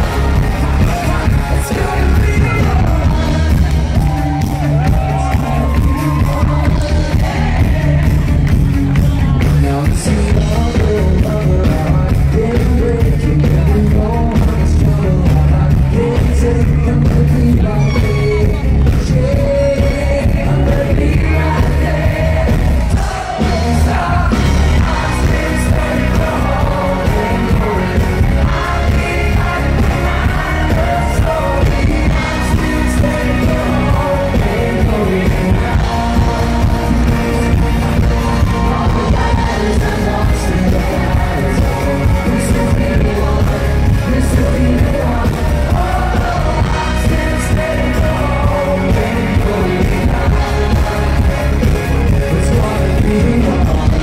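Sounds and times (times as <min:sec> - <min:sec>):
man singing: 0:00.0 - 0:54.0
pop band with heavy bass and beat: 0:00.0 - 0:54.0.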